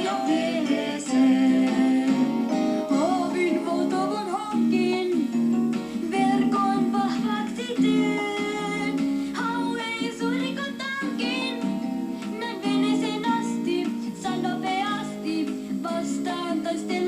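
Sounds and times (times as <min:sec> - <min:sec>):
person singing: 0:00.0 - 0:17.0
plucked acoustic guitar: 0:00.0 - 0:17.0.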